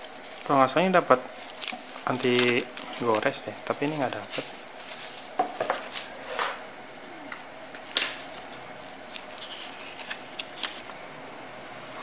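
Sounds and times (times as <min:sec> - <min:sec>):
paper rustling and crinkling: 0:00.0 - 0:06.3, 0:07.1 - 0:11.0.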